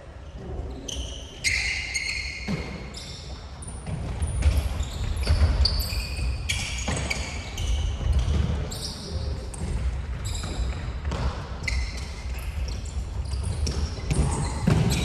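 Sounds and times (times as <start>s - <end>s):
shoes squeaking on hall floor: 0.0s - 15.0s.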